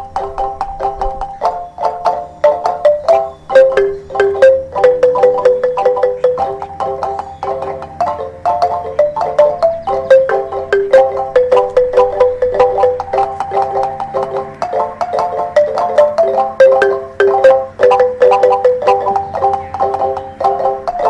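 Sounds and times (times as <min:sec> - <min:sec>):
marimba playing quick notes: 0:00.0 - 0:21.0.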